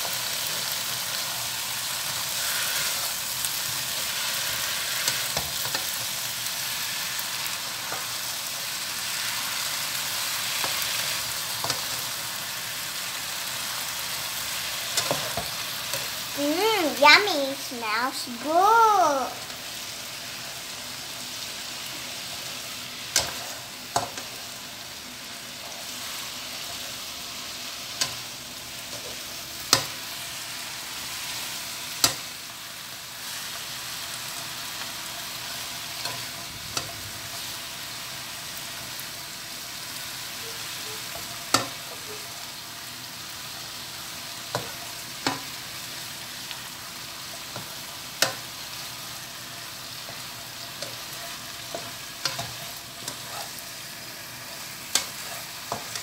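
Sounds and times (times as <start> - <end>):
greens sizzling in a wok: 0.0 - 56.0.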